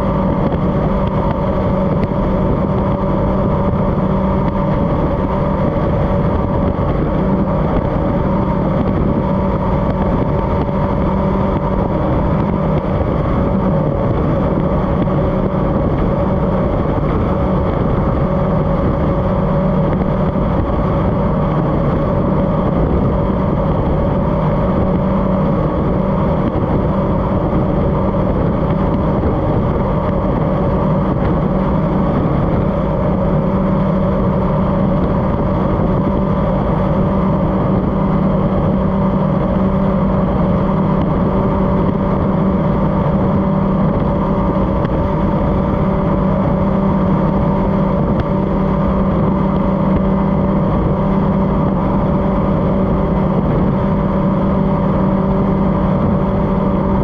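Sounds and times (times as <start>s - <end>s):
powerboat engine running: 0.0s - 57.0s.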